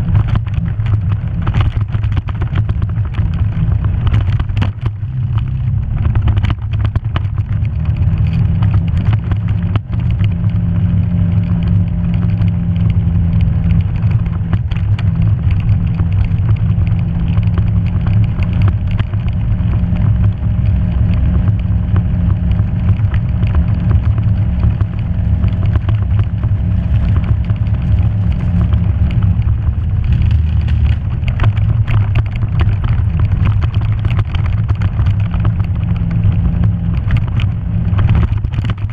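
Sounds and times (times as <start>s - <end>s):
knocks and rattles over ground: 0.0s - 38.9s
vehicle engine running: 0.0s - 38.9s.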